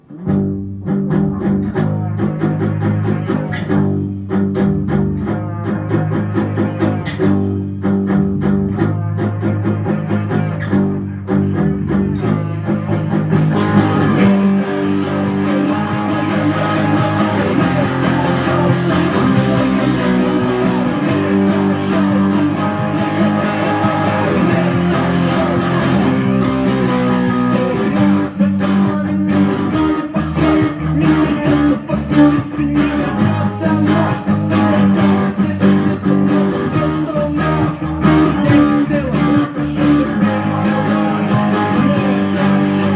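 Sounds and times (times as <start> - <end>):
guitar playing: 0.0 - 42.9
low bass line: 0.0 - 42.9.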